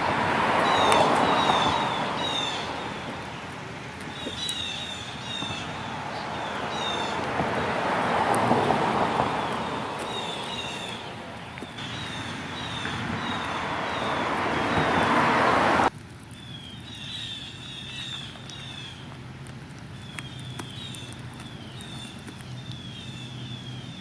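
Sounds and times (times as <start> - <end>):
small birds chirping: 0.0 - 24.0
vehicle passing on road: 0.0 - 24.0.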